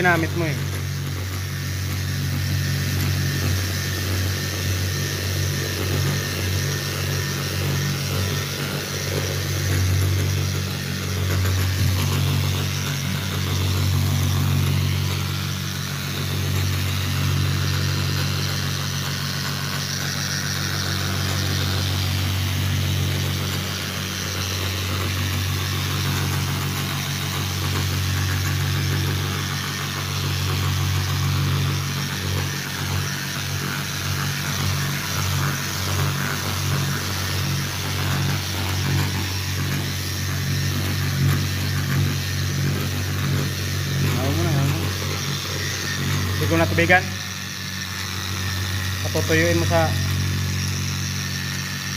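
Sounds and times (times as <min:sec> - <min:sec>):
electric polisher humming: 0:00.0 - 0:51.9.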